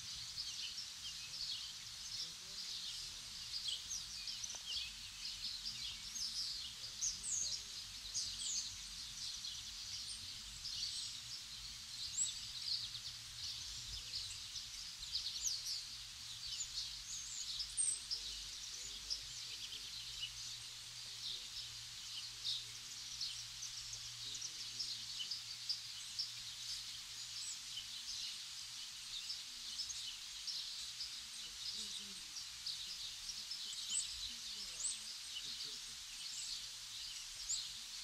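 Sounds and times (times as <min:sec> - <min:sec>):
songbirds chirping and singing: 0:00.0 - 0:38.0.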